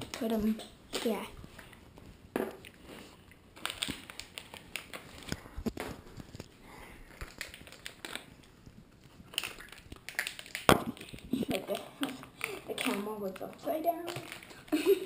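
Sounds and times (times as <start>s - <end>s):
objects handled clicking and crinkling: 0.0s - 15.0s.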